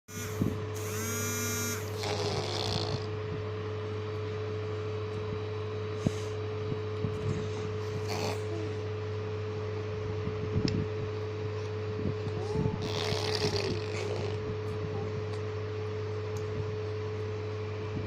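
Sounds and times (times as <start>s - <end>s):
low mechanical hum: 0.1s - 18.0s.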